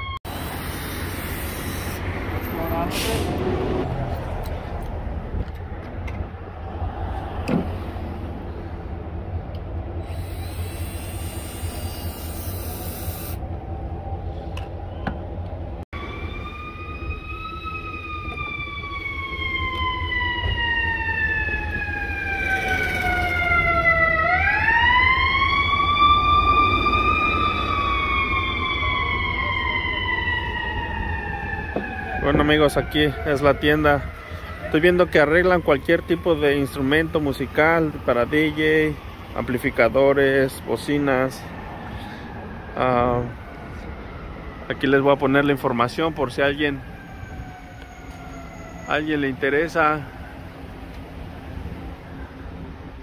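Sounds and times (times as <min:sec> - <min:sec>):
emergency vehicle siren wailing: 0:00.0 - 0:05.6, 0:10.0 - 0:53.0
city traffic rumble: 0:00.0 - 0:53.0.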